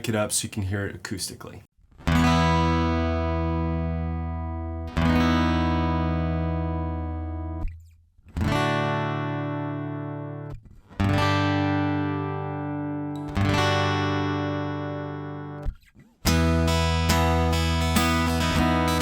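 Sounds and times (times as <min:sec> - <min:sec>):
acoustic guitar chords strummed: 0:02.0 - 0:07.6, 0:08.4 - 0:15.6, 0:16.3 - 0:19.0.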